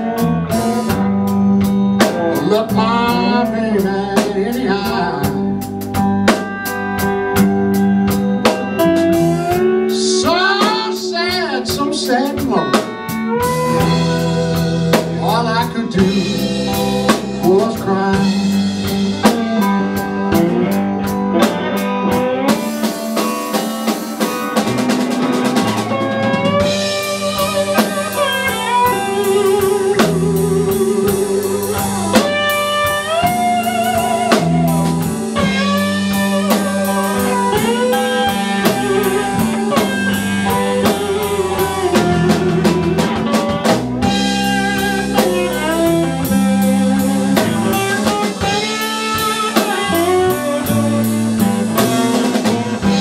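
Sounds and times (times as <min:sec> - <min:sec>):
drum kit: 0:00.0 - 0:53.0
electric guitar solo: 0:00.0 - 0:53.0
steady bass: 0:00.0 - 0:53.0.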